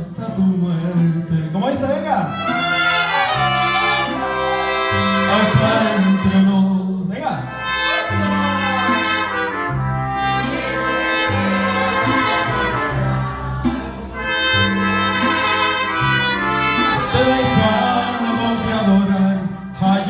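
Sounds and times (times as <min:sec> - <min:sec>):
repeating low bass line: 0:00.0 - 0:20.0
mariachi band trumpets: 0:01.7 - 0:20.0.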